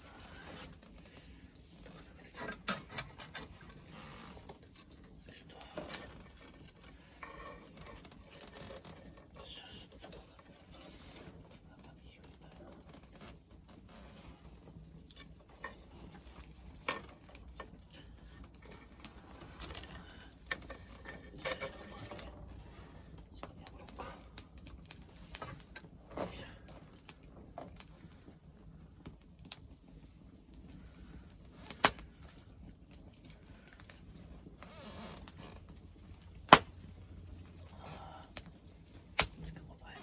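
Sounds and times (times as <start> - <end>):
fire snapping: 0.0 - 40.0.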